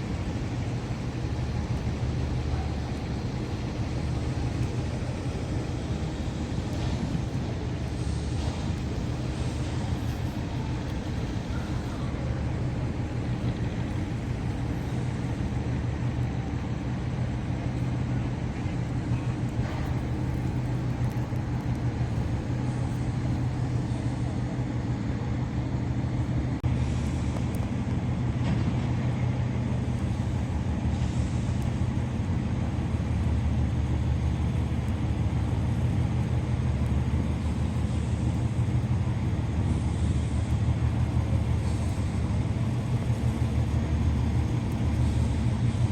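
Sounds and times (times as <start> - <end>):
large engine droning: 0.0 - 45.9.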